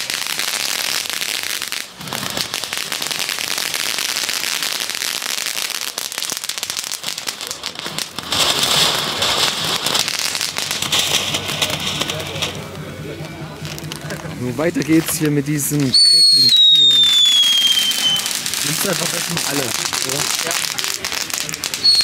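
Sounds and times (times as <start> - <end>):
firework fountain hissing: 0.0 - 22.0
fireworks crackling: 0.0 - 22.0.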